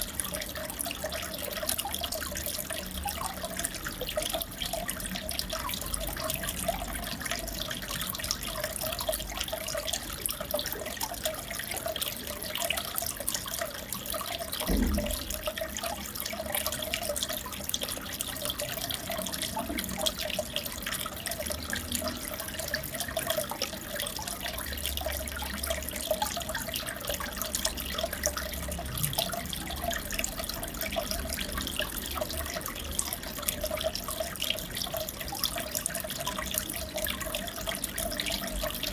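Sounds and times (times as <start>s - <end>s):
aquarium water bubbling: 0.0s - 38.9s.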